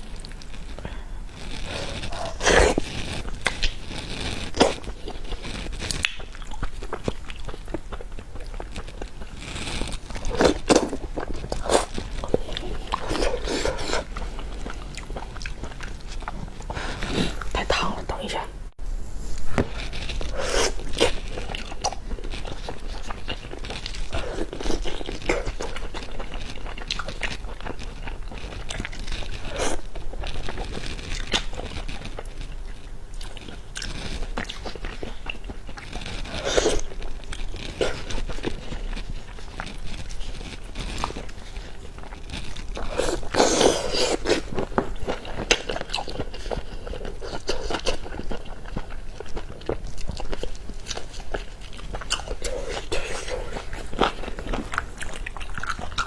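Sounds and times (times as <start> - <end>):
person chewing and crunching: 0.0 - 17.9, 19.6 - 56.0.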